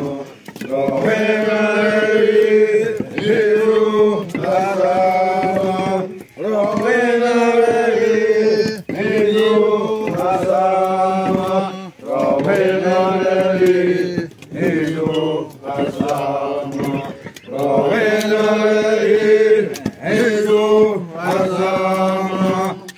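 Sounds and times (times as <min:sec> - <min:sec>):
men chanting: 0:00.0 - 0:22.9.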